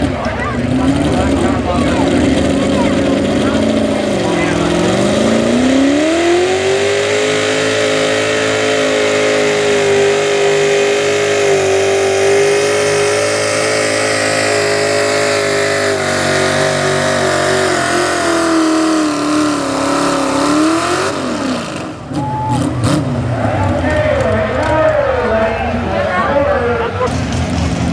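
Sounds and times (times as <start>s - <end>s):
truck engine at full throttle: 0.0s - 27.9s.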